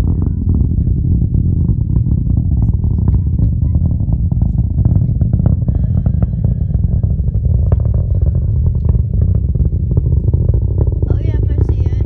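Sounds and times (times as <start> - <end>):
rocket engine rumble with crackling: 0.0 - 12.0.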